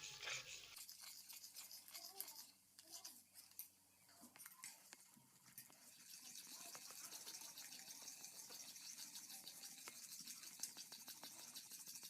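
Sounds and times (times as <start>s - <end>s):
rapid stirring scraping ticks: 0.0s - 3.7s, 4.4s - 12.0s.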